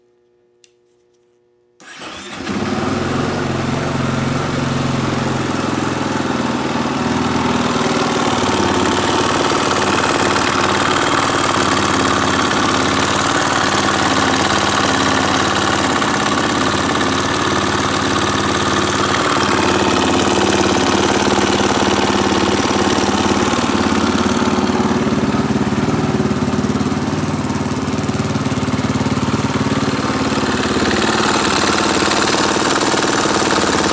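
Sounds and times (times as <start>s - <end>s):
engine knocking: 1.8s - 33.9s
motorcycle engine idling: 1.8s - 33.9s.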